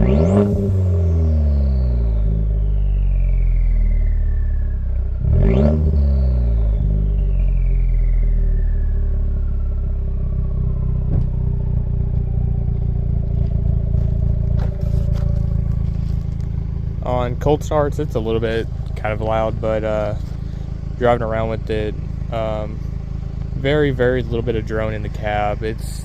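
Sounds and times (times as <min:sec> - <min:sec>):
truck engine idling and revving: 0:00.0 - 0:26.0
turbo whine: 0:00.0 - 0:26.0.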